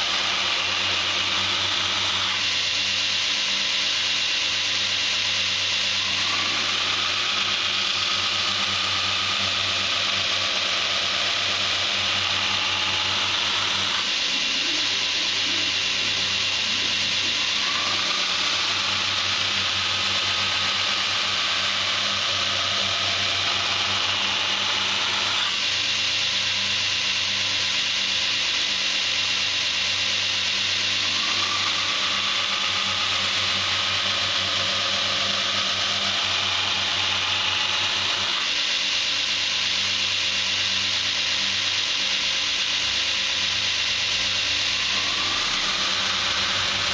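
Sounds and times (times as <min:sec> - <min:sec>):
steel grinding on abrasive belt: 0:00.0 - 0:04.7, 0:05.6 - 0:25.9, 0:28.7 - 0:40.4, 0:43.5 - 0:46.9
belt grinder motor humming: 0:00.0 - 0:46.9.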